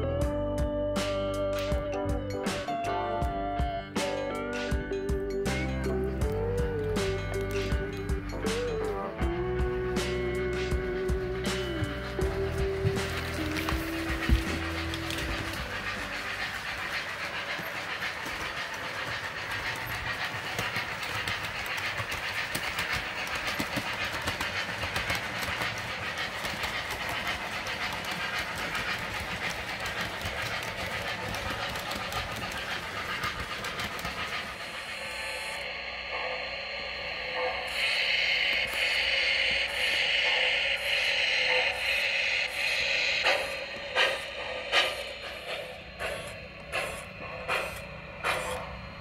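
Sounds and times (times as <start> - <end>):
model train wheels clicking: 3.6 - 49.0
steam hiss sound effect: 4.0 - 49.0.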